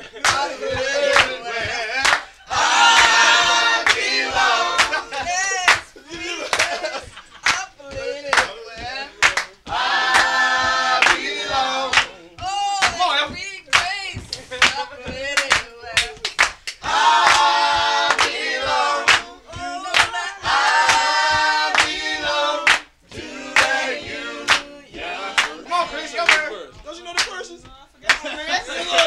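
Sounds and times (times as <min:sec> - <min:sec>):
men singing unaccompanied: 0:00.0 - 0:29.0
rhythmic hand clapping: 0:00.0 - 0:29.0.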